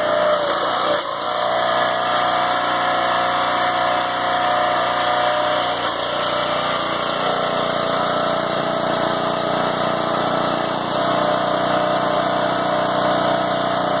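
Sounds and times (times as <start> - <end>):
log splitter engine running: 0.0 - 14.0.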